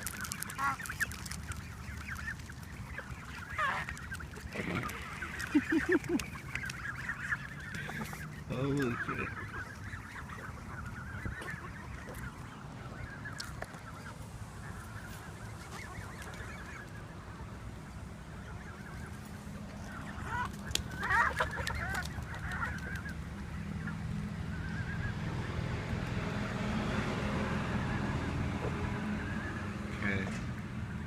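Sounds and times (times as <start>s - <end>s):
geese honking: 0.0s - 31.0s.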